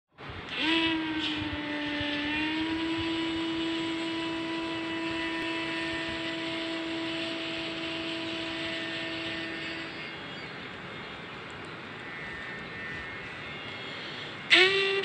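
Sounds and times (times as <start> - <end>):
steady pitched tone: 0.8 - 15.0.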